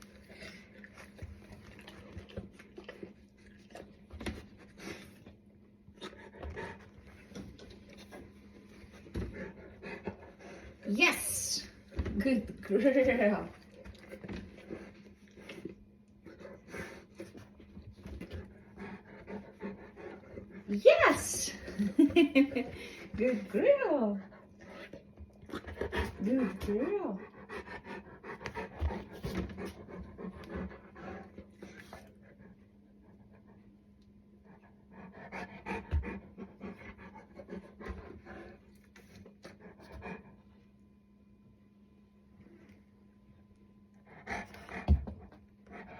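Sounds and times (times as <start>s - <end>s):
dog panting: 0.0s - 11.6s, 12.2s - 40.7s, 43.9s - 45.9s.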